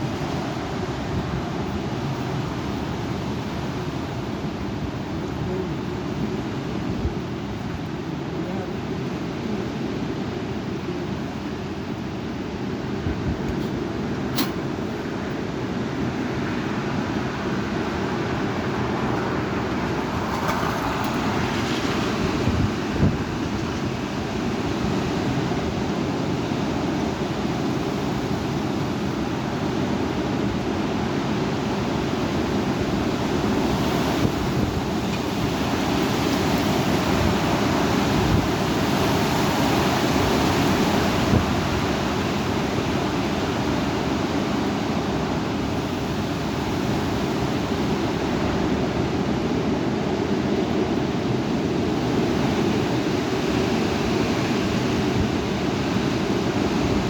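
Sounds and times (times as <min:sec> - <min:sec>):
wind and rain rushing: 0:00.0 - 0:57.0
wind buffeting microphone: 0:10.1 - 0:57.0.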